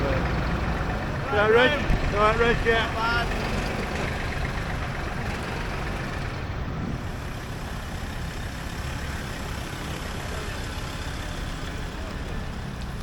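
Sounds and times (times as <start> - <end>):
tractor engines rumbling: 0.0 - 13.0.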